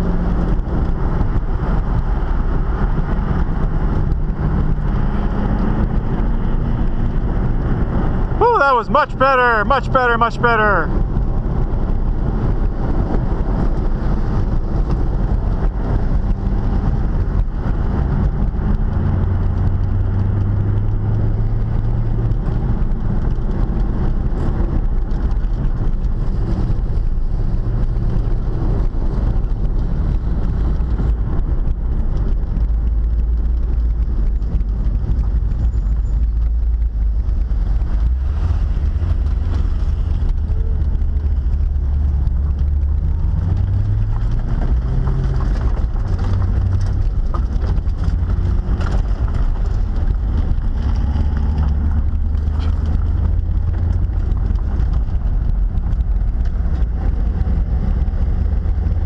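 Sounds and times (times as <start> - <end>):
car engine droning: 0.0 - 59.0
road and wind noise: 0.0 - 59.0.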